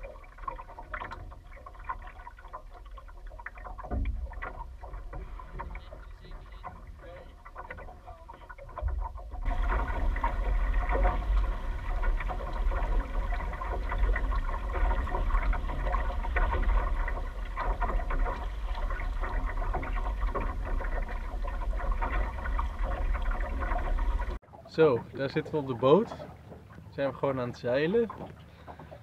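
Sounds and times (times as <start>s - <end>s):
water splashing along hull: 0.0s - 29.0s.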